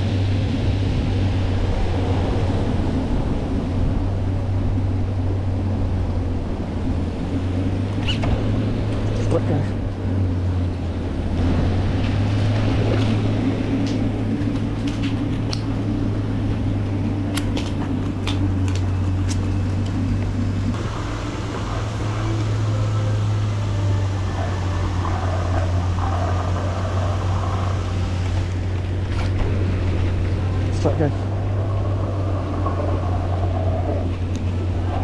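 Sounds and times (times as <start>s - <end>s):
paddlewheel aerators humming: 0.0s - 35.0s.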